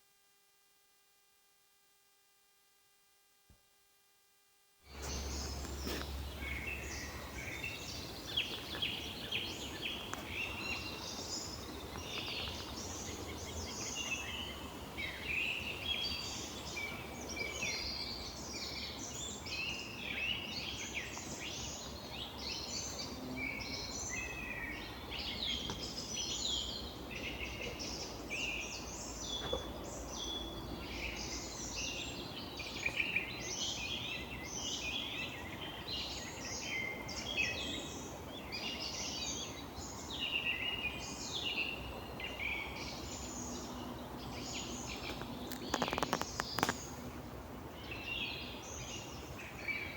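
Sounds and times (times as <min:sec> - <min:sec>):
songbirds chirping and trilling: 0:04.9 - 0:49.9.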